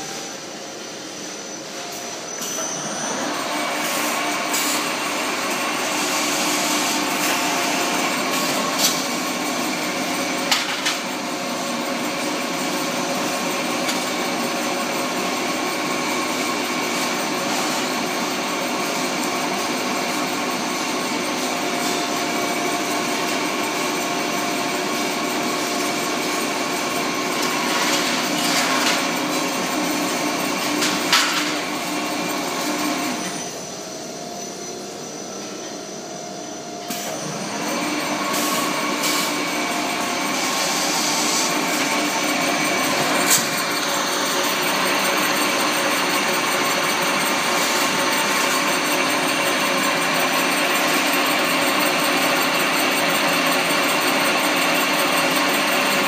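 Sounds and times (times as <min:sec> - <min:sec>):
wire coiler machine humming: 0:00.0 - 0:56.0.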